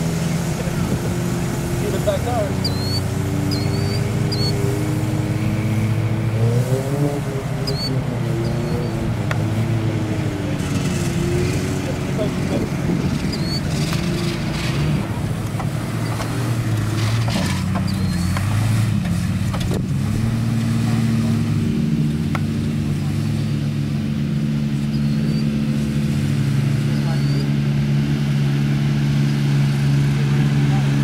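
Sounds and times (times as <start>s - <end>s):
suv engine running: 0.0s - 31.0s.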